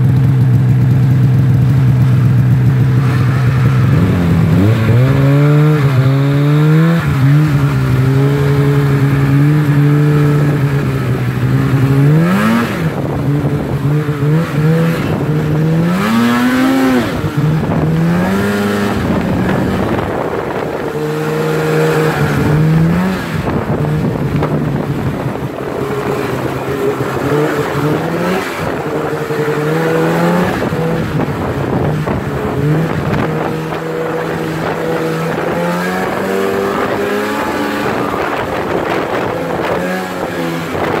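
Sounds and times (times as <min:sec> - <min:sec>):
snowmobile engine running: 0:00.0 - 0:41.0.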